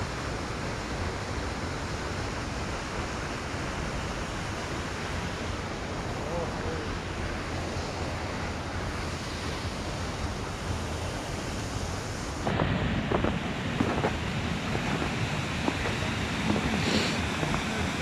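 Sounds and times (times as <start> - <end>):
wind: 0.0 - 18.0
waterfall rushing: 1.9 - 18.0.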